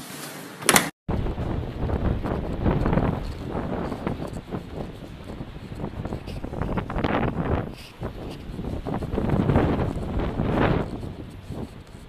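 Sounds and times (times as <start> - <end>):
wind buffeting microphone: 1.1 - 12.0.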